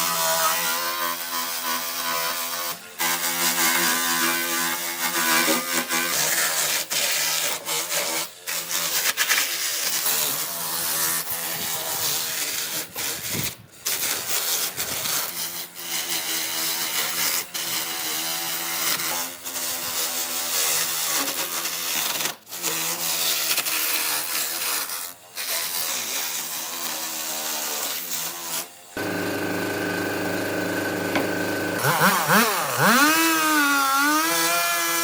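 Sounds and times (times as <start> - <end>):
power tool cutting wood: 0.0 - 35.0.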